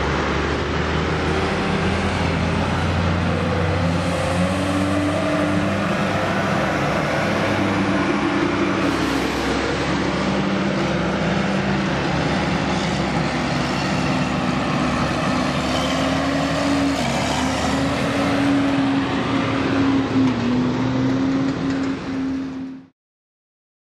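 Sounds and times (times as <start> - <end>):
combine harvester engine droning: 0.0 - 22.9.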